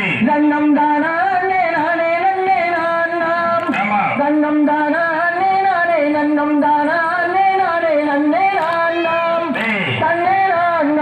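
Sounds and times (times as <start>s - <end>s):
person singing folk song: 0.0s - 11.0s.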